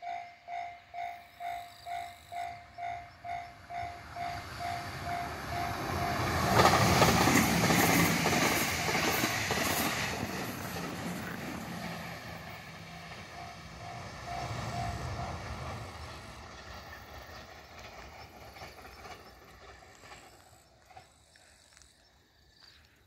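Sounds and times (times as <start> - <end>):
train rumble and wheel noise: 0.0 - 22.3.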